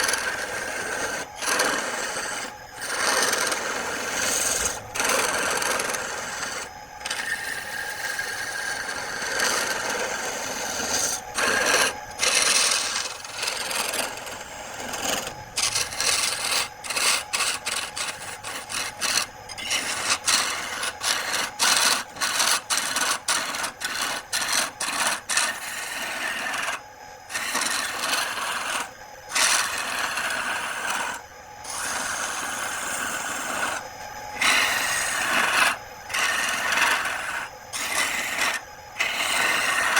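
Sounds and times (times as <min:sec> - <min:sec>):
wood scraping on a lathe: 0:00.0 - 0:39.9.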